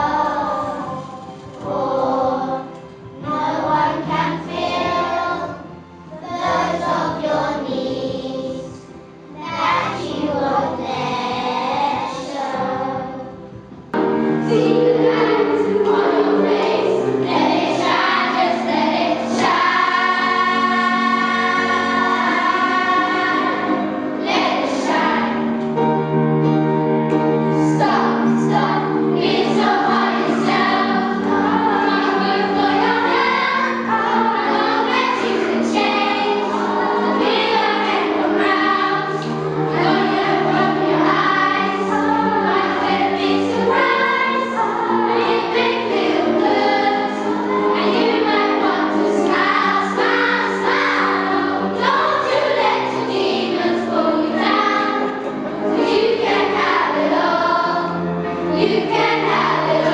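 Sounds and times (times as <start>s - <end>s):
children's choir singing: 0.0s - 59.9s.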